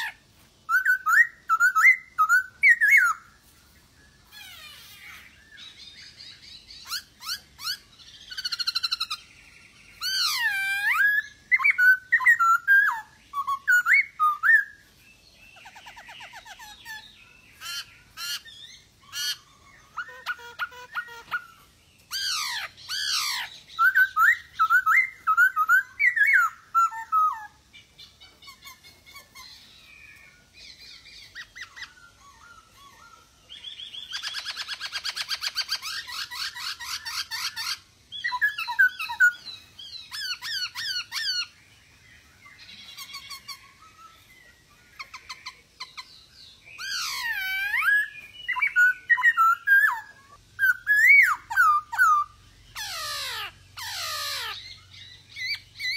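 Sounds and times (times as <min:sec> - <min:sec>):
bird singing whistled phrases: 0:00.0 - 0:03.4, 0:04.2 - 0:14.9, 0:15.5 - 0:41.6, 0:42.5 - 0:55.9
harsh rattling bird chatter: 0:00.0 - 0:55.9.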